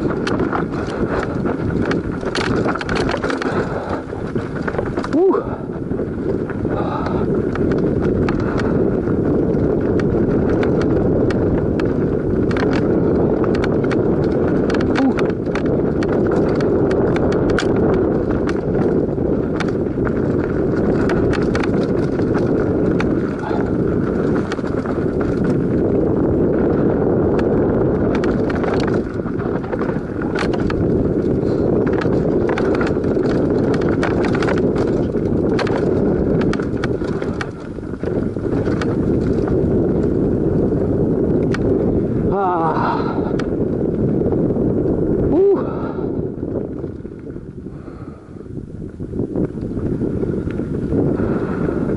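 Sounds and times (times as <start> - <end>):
bike rattling over bumps: 0.0 - 51.9
bike tyres rumbling on dirt: 0.0 - 51.9.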